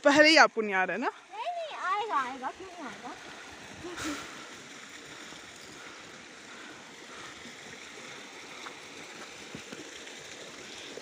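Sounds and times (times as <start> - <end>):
stream rushing: 1.2 - 11.0.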